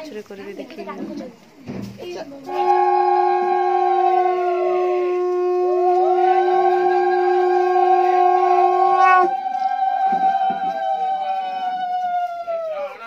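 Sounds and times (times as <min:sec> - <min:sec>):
high conch shell swooping note: 0:02.4 - 0:13.0
low conch shell note: 0:02.5 - 0:13.0.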